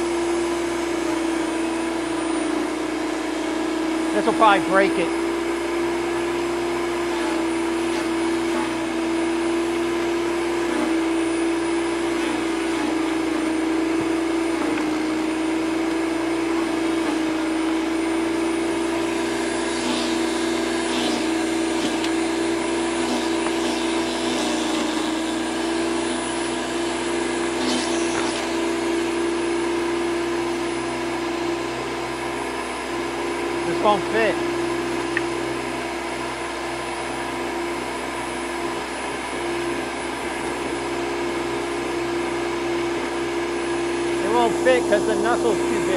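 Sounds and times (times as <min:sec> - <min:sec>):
chipper shredder motor whine: 0:00.0 - 0:45.9.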